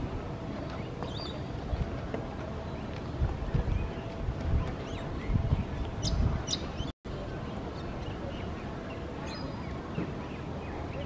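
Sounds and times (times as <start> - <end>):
low gusty rumble: 0.0 - 9.2.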